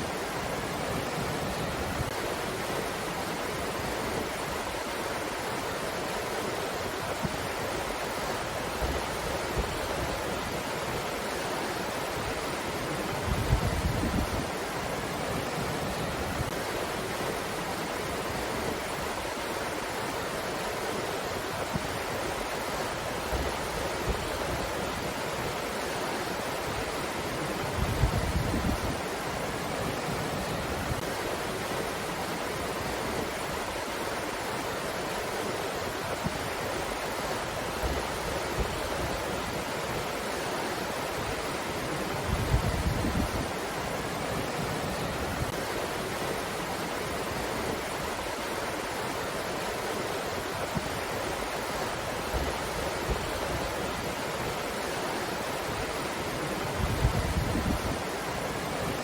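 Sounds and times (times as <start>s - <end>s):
wind gusts on microphone: 0.0s - 19.7s, 20.3s - 59.0s.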